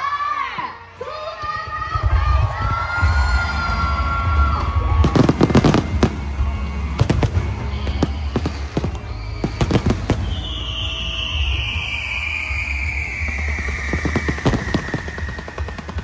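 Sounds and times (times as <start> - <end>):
fireworks bangs and crackles: 1.4 - 16.0
low bass music: 2.0 - 16.0.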